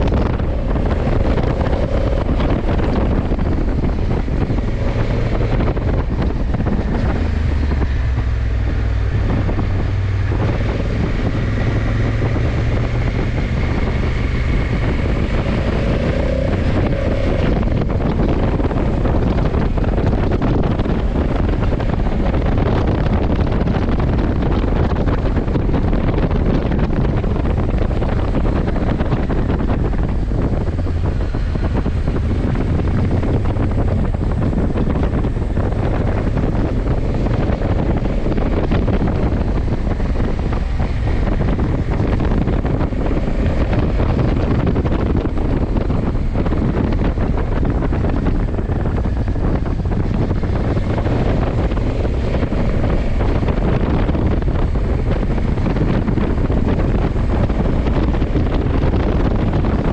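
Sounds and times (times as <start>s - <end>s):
motorcycle engine rumble: 0.0s - 59.9s
wind rush on microphone: 0.0s - 59.9s.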